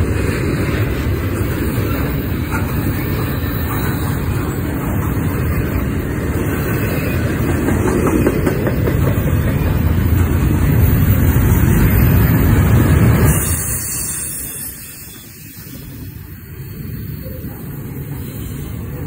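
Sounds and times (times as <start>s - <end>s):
steel wheels clacking on rails: 0.0s - 19.0s
train rumbling past: 0.0s - 19.0s.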